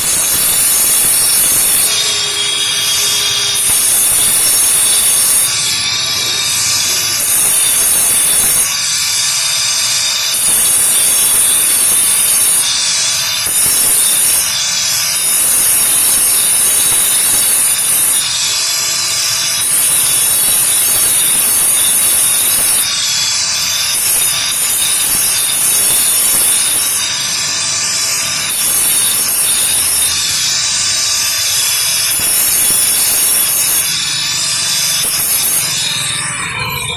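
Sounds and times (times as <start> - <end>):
high hiss: 0.0 - 36.2
grinding stone scraping: 0.0 - 36.9.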